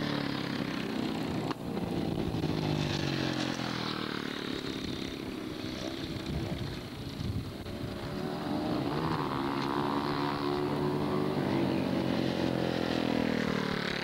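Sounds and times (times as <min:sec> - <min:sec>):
distant motorcycles running: 0:00.0 - 0:14.0
motorcycle engine passing: 0:00.0 - 0:14.0.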